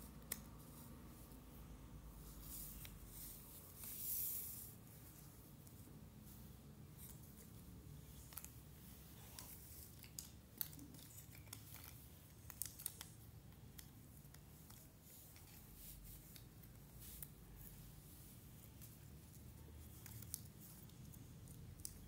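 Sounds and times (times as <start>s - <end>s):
faint low room hum: 0.0s - 22.0s.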